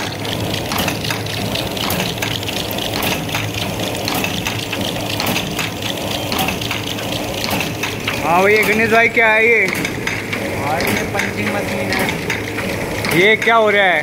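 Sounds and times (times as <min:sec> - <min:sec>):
machine cutting clicks: 0:00.0 - 0:14.0
punching machine humming: 0:00.0 - 0:14.0.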